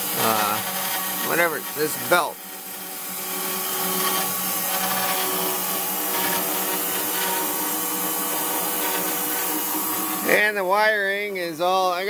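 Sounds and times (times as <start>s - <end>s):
small electric motor whirring: 0.0s - 10.6s.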